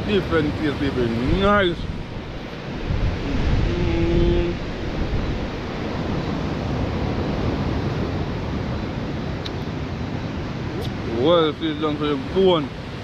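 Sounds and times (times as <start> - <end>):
sea surf washing on shore: 0.0 - 13.0
wind buffeting microphone: 0.0 - 13.0.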